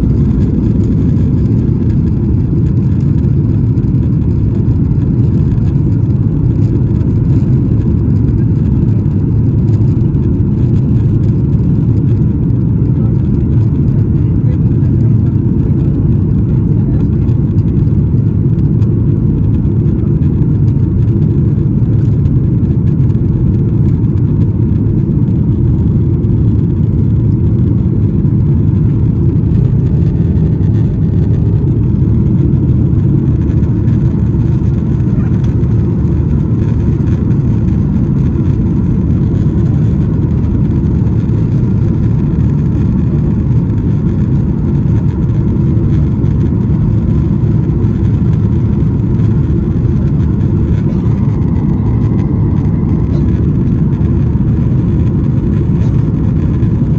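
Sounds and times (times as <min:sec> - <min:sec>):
jet engines rumbling in cabin: 0:00.0 - 0:56.9.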